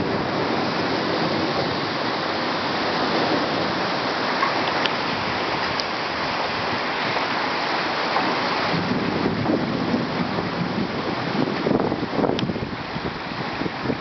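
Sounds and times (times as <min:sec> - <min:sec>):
heavy rain pouring: 0:00.0 - 0:14.0
wind gusting against microphone: 0:00.0 - 0:14.0.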